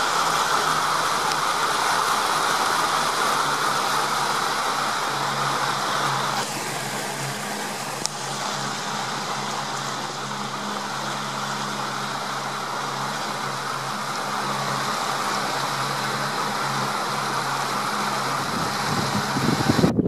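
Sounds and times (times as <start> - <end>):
boat motor humming: 0.0 - 20.0
hiss of wind and water: 0.0 - 20.0.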